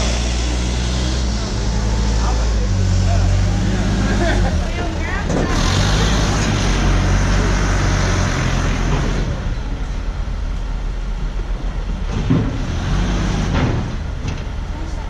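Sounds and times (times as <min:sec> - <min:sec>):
loud rush of noise: 0:00.0 - 0:14.2
vehicle engine running: 0:00.0 - 0:15.0.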